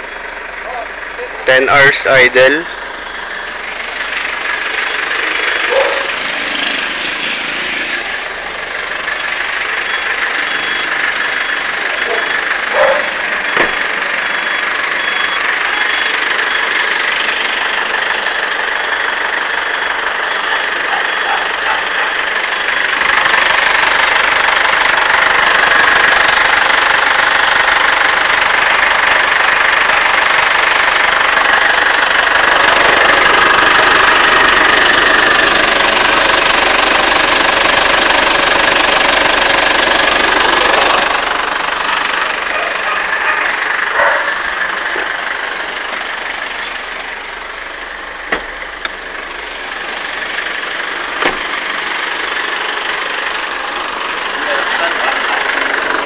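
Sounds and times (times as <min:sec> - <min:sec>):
car running with hissing rattle: 0:00.0 - 0:56.0.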